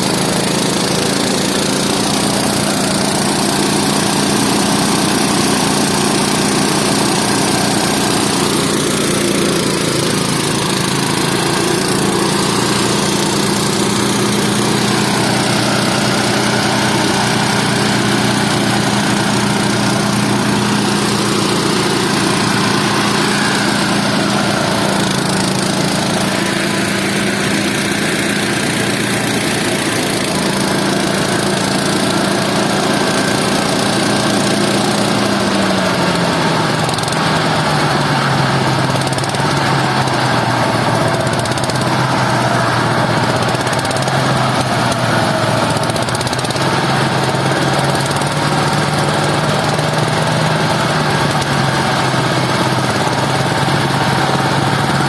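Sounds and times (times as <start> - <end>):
small engine running under load: 0.0 - 55.0.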